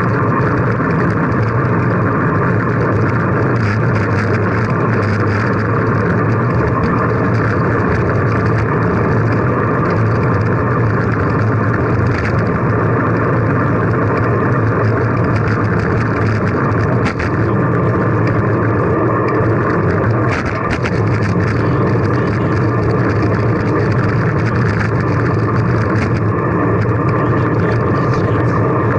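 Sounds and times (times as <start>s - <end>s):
bicycle road noise: 0.0s - 28.9s.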